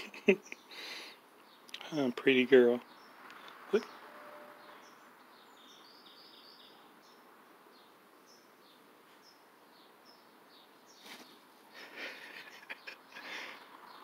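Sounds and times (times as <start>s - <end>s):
distant bird chirps: 0.3s - 14.0s.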